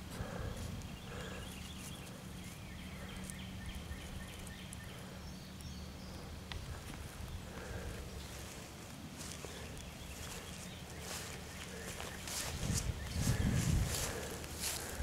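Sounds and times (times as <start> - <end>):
faint low rumbling: 0.0 - 15.0.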